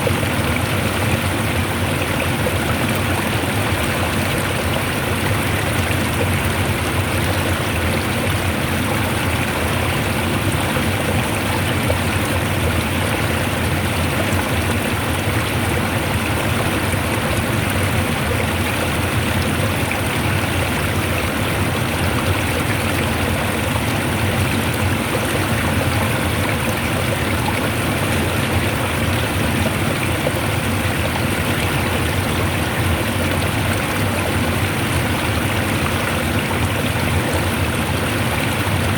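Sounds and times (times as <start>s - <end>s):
fast-flowing water rushing: 0.0s - 38.9s.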